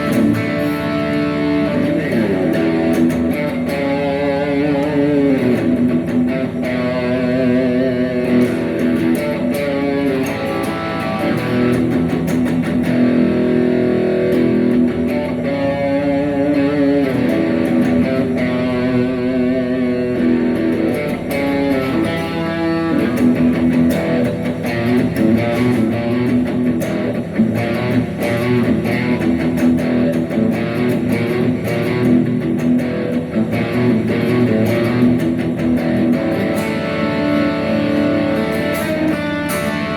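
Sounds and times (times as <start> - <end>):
bass guitar: 0.0 - 39.9
electric guitar lead: 0.0 - 39.9.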